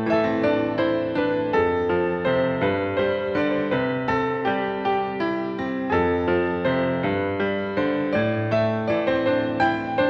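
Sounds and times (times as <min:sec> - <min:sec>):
slow gentle piano notes: 0:00.0 - 0:10.0.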